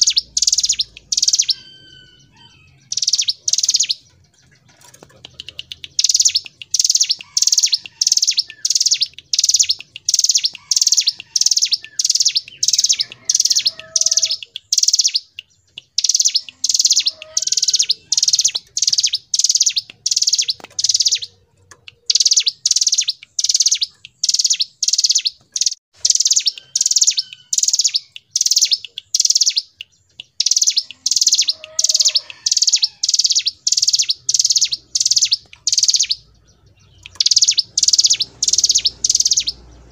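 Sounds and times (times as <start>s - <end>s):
bird singing high repeated notes: 0.0s - 39.9s.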